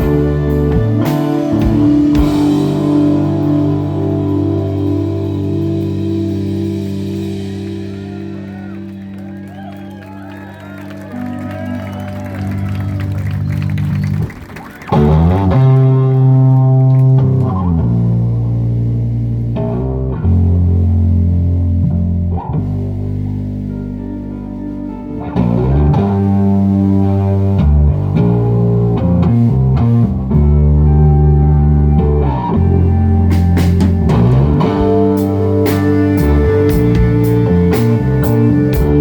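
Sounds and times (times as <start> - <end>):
bass guitar: 0.0 - 39.0
electric guitar: 0.0 - 39.0.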